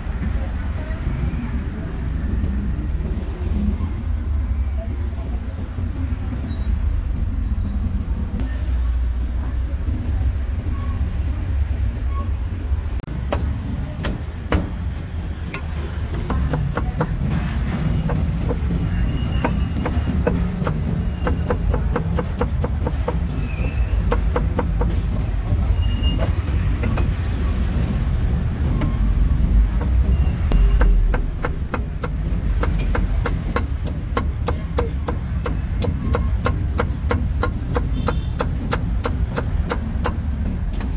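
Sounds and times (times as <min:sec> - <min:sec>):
street noise rumble: 0:00.0 - 0:40.9.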